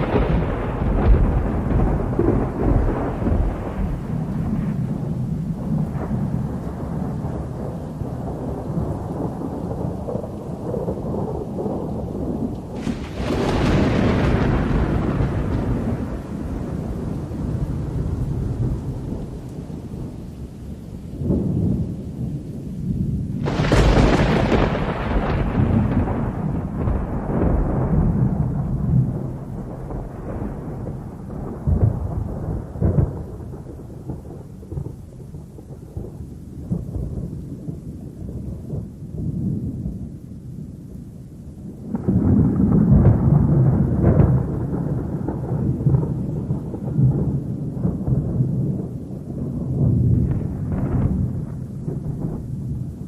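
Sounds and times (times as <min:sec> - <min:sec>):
thunder rumbling: 0:00.0 - 0:53.0.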